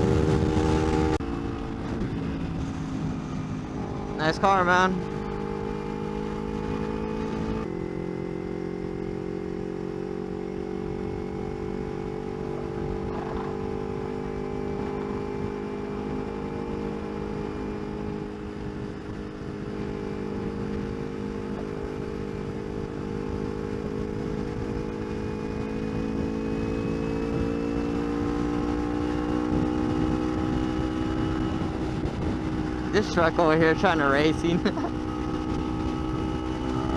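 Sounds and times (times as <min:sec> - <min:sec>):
motorcycle engine cruising: 0:00.0 - 0:36.9
wind and road rush: 0:00.0 - 0:36.9.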